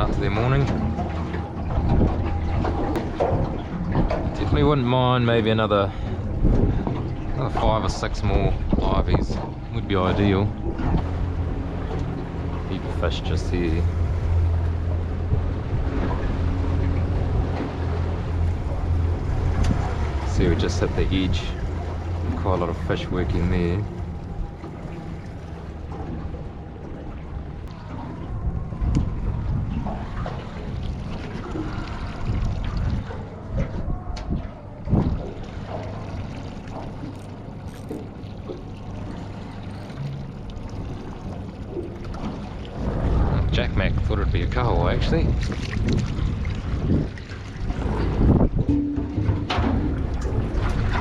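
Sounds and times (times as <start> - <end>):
boat motor humming: 0.0 - 51.0
water lapping: 0.0 - 51.0.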